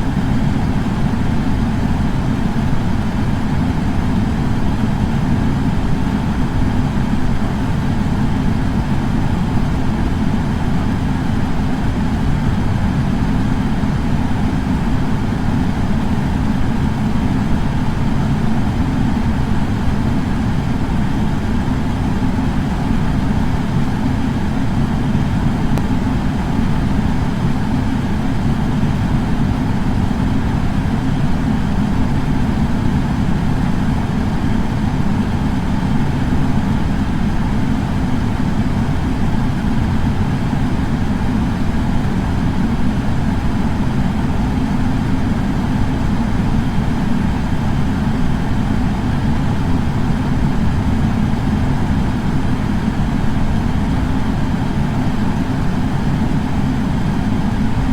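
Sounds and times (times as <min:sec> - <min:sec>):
air purifier fan humming: 0:00.0 - 0:57.9.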